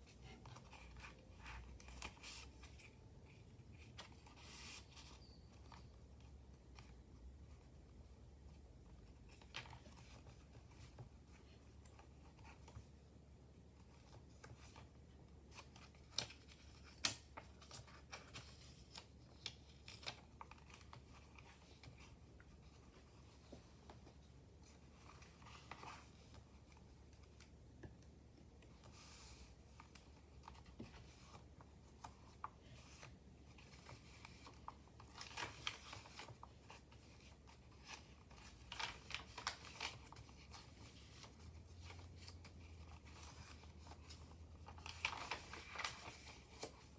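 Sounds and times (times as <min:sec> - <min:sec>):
paper pages rustling: 0:00.1 - 0:05.9, 0:13.8 - 0:27.6, 0:28.6 - 0:46.9.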